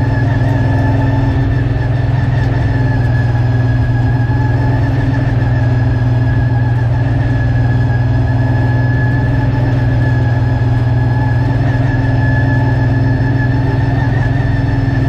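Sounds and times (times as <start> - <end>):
race car engine running steadily: 0.0 - 15.0.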